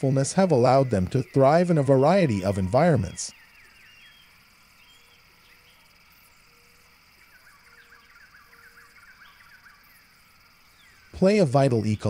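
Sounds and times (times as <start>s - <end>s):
bird chirping: 0.0s - 12.0s
high insect hum: 0.0s - 12.0s.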